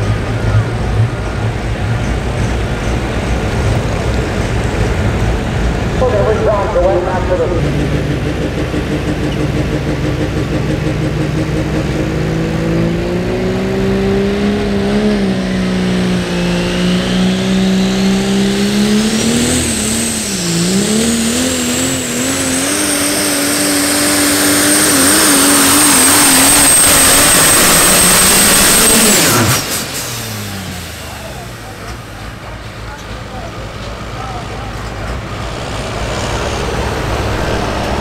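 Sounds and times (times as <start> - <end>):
diesel truck engine under load: 0.0 - 38.0
turbocharger whine: 0.0 - 38.0.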